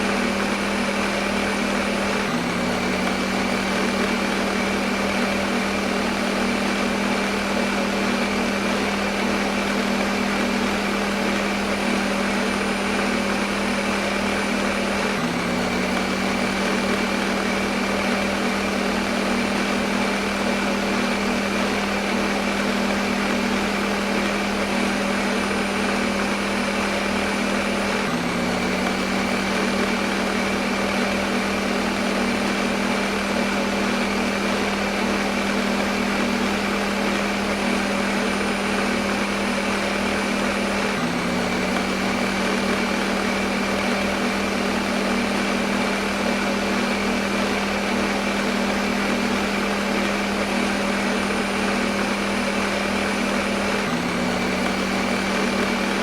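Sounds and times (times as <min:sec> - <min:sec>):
blender motor running: 0:00.0 - 0:56.0.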